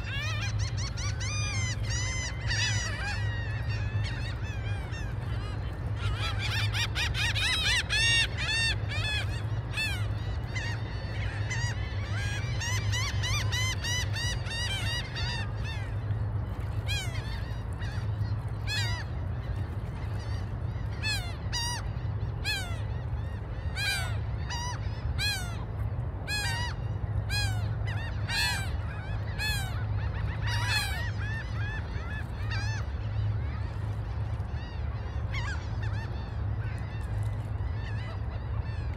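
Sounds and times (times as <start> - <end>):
gulls calling: 0.0 - 38.9.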